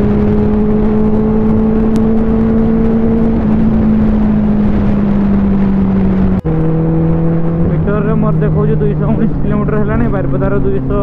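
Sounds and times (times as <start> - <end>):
motorcycle engine droning: 0.0 - 11.0
wind and road noise: 0.0 - 11.0.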